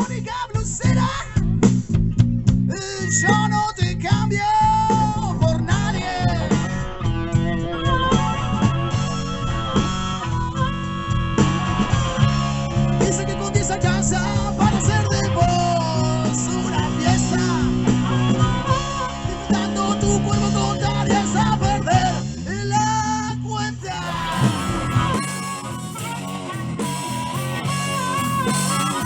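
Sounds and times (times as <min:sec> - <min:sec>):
blues band playing live: 0:00.0 - 0:29.0
guitar: 0:00.0 - 0:29.0.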